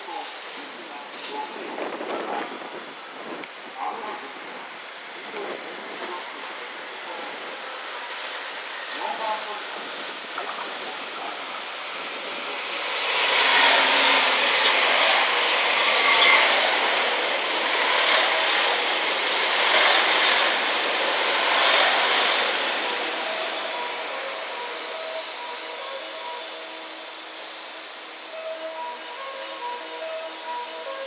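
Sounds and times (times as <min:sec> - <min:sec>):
train rushing past: 0:04.7 - 0:31.0.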